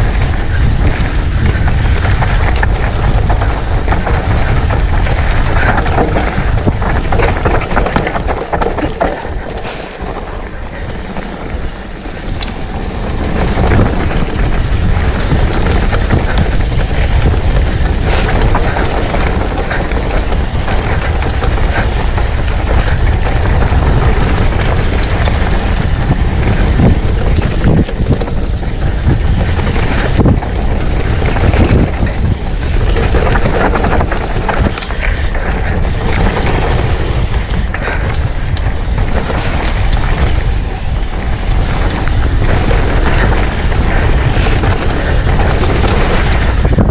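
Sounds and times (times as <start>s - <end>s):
bike knocks and rattles: 0.0s - 46.9s
bike tyres rumbling on dirt: 0.0s - 46.9s
wind buffeting microphone: 0.0s - 46.9s.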